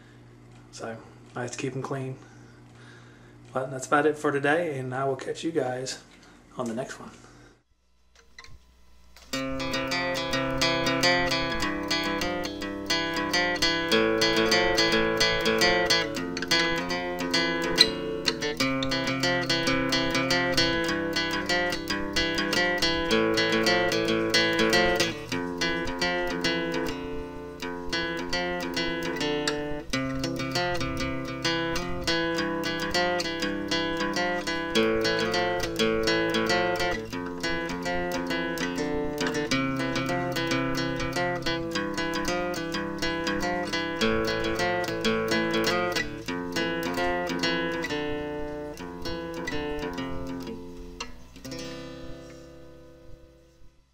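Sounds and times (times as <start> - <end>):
acoustic guitar piece: 9.2 - 53.9.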